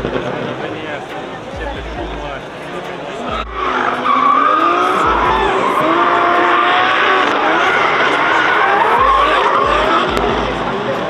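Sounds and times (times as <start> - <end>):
car engines revving hard: 0.0 - 11.0
tyres skidding on tarmac: 2.1 - 11.0.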